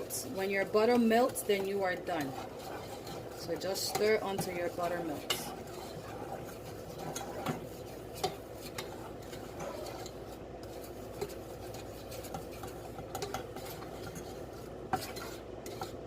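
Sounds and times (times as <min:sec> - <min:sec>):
utensils scraping pots: 0:00.0 - 0:16.0.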